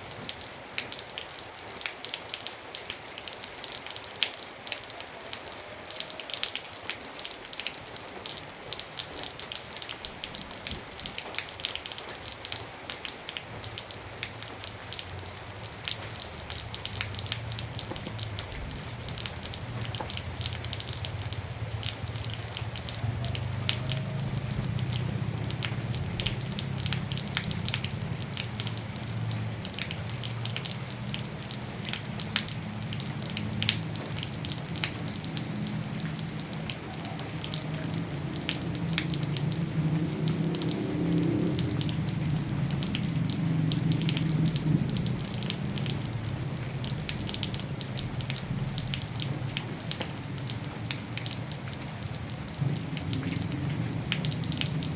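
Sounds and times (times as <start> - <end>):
raindrops ticking on a surface: 0.0 - 54.9
steady rain hiss: 0.0 - 54.9.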